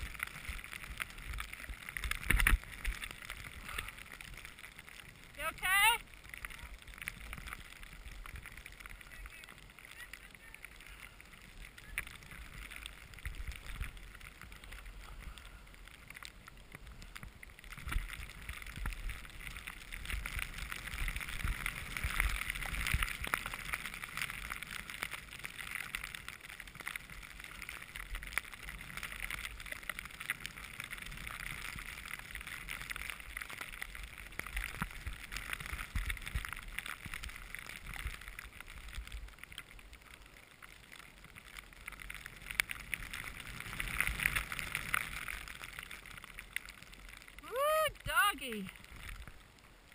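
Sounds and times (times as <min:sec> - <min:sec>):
wind rumbling on microphone: 0:00.0 - 0:49.9.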